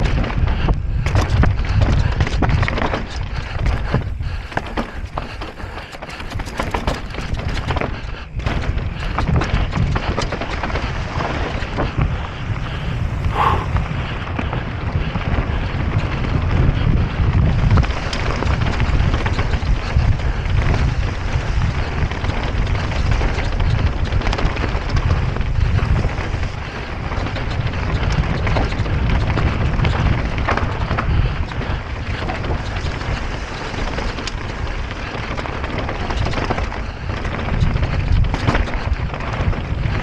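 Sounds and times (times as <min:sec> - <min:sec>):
mountain bike clattering: 0:00.0 - 0:40.0
wind buffeting microphone: 0:00.0 - 0:40.0.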